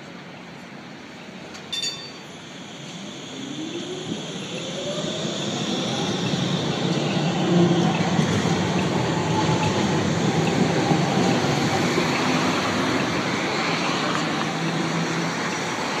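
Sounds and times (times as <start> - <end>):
faint tram hum: 0.0 - 16.0
tram wheels rolling on rails: 1.4 - 16.0.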